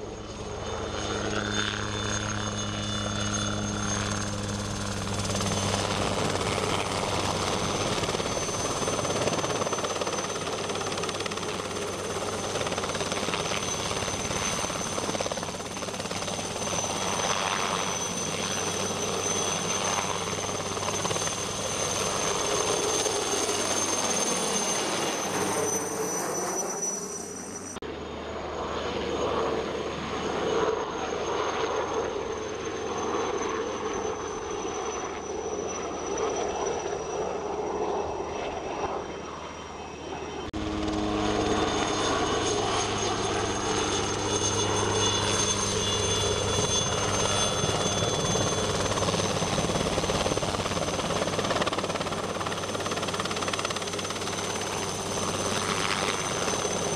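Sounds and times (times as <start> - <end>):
helicopter rotor and engine: 0.0 - 56.9.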